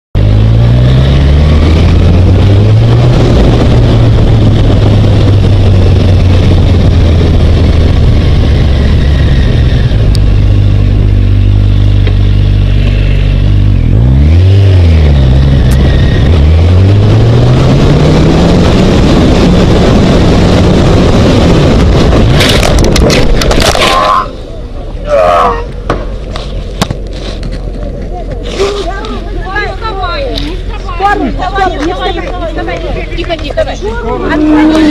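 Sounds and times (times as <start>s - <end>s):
wind rush on microphone: 0.2s - 24.9s, 26.5s - 34.9s
motorcycle engine accelerating: 0.2s - 25.0s, 30.6s - 34.9s.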